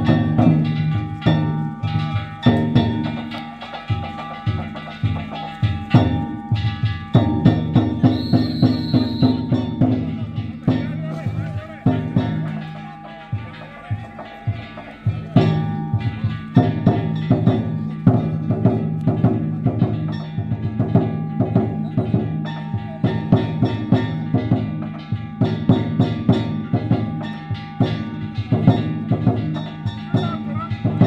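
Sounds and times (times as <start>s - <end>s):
hand gongs clanging: 0.0s - 31.0s
large drum beating fast: 0.0s - 31.0s.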